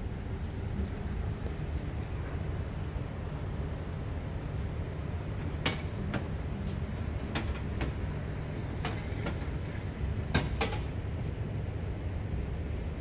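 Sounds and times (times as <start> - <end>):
low rumble of ship deck ambience: 0.0 - 13.0.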